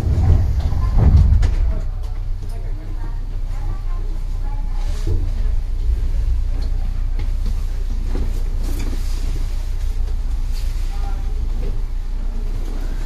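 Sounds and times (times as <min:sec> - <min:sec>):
train cab rumble: 0:00.0 - 0:13.0.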